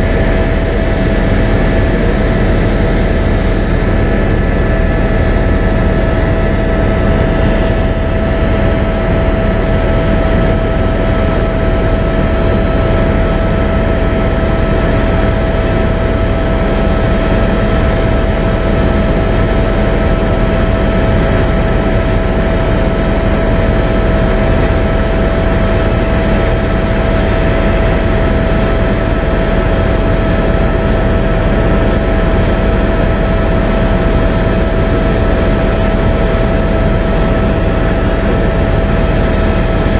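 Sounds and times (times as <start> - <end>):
aircraft engine and airflow noise: 0.0 - 39.9
constant high whine: 0.0 - 39.9.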